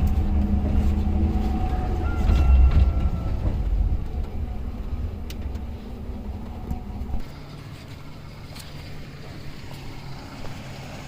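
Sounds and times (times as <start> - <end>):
thin whine: 0.0 - 10.5
vehicle engine rumbling: 0.0 - 11.0.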